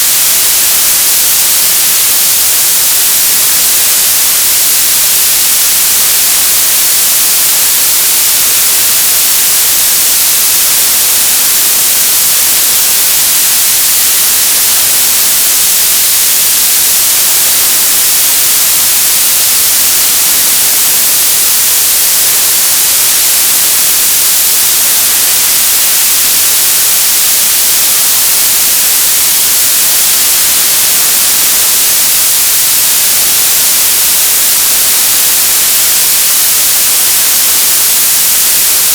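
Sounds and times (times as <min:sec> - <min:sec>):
television static hiss: 0:00.0 - 0:38.9.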